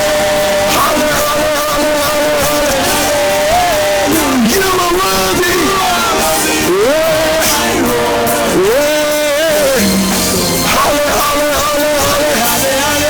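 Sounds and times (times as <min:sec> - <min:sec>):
person singing: 0:00.0 - 0:13.0
worship band music: 0:00.0 - 0:13.0.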